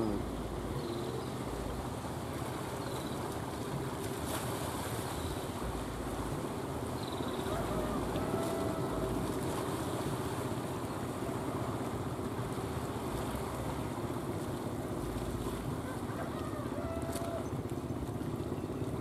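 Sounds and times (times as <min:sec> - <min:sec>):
boat engine running: 0:00.0 - 0:19.0
sea wash: 0:00.0 - 0:19.0.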